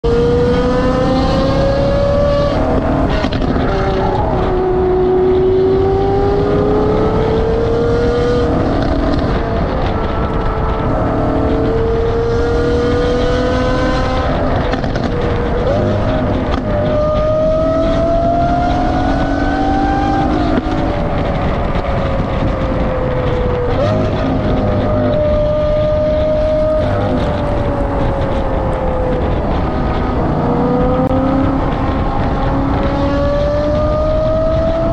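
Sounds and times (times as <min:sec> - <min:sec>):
road and wind noise: 0:00.0 - 0:34.9
sports car exhaust note: 0:00.0 - 0:34.9.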